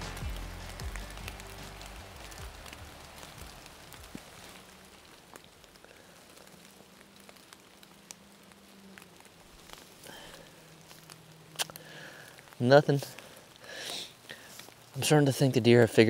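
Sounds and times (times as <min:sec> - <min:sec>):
soft hiss: 0:00.0 - 0:16.0
ticks and patter on dry leaves: 0:00.0 - 0:16.0.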